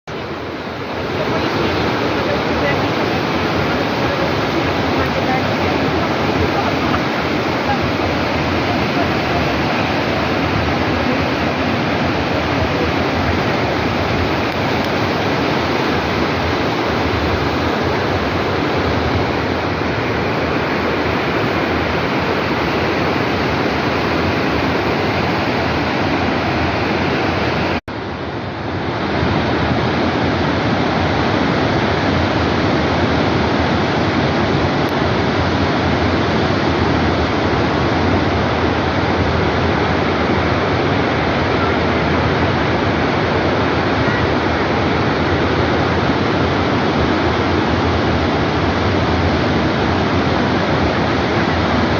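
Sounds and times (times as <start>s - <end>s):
waterfall roaring: 0.1s - 51.9s.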